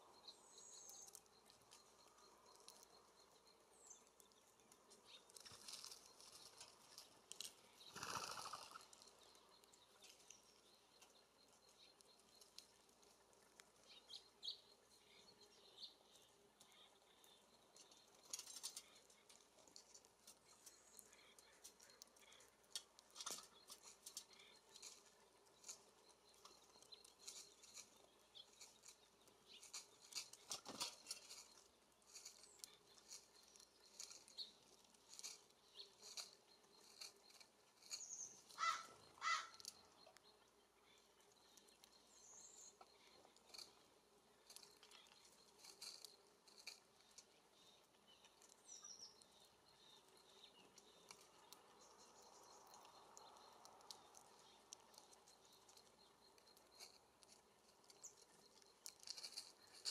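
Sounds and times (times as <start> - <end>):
birds pecking on metal feeders: 0.0 - 59.9.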